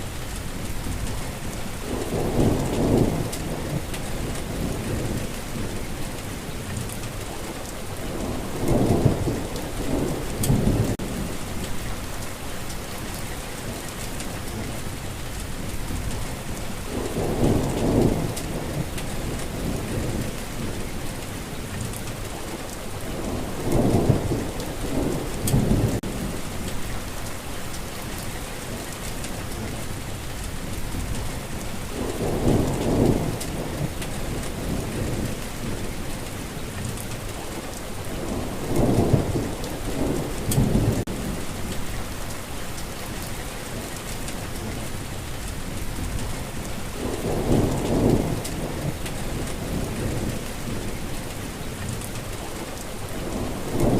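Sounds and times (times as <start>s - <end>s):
heavy rain hissing: 0.0s - 53.9s
thunder rumbling: 0.4s - 7.2s, 8.0s - 13.2s, 14.0s - 53.9s.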